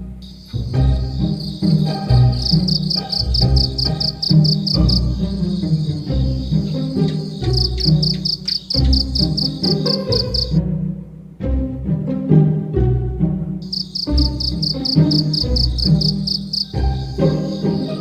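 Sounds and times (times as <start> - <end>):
background music with plucked notes: 0.0 - 18.0
cricket chirping: 0.2 - 10.6, 13.6 - 18.0.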